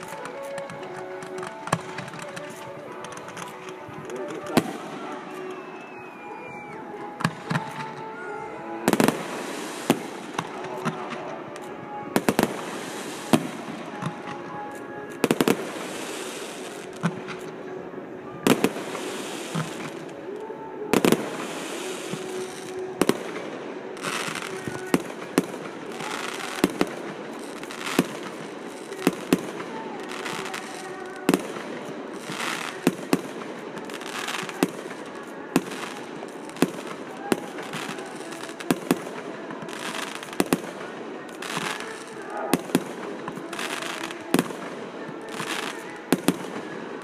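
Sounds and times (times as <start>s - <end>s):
rushing noise of fireworks launches: 0.0s - 17.6s, 18.4s - 47.0s
fireworks bangs: 0.0s - 47.0s.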